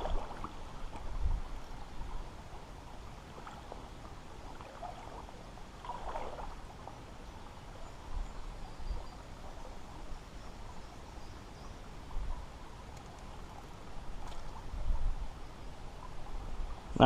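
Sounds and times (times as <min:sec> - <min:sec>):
creek water trickling over rocks: 0:00.0 - 0:16.9.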